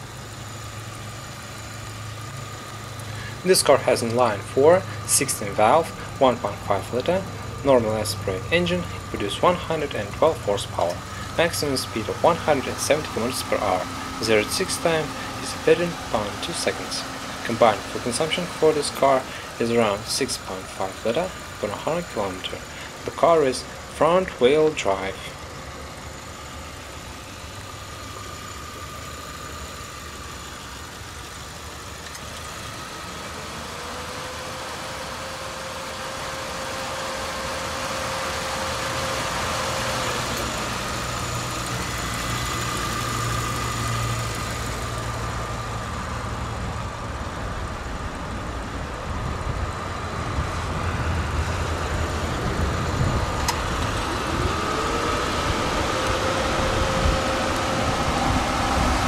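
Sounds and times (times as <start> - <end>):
car engine idling: 0.0 - 59.0
faint whine: 0.0 - 59.0.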